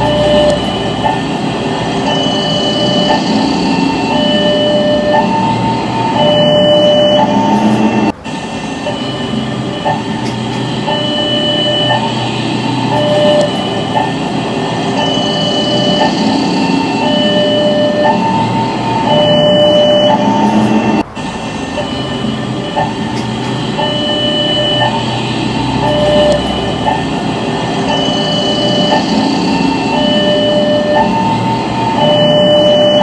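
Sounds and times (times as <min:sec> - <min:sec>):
train rumbling past: 0:00.0 - 0:33.0
two-tone crossing alarm: 0:00.0 - 0:33.0.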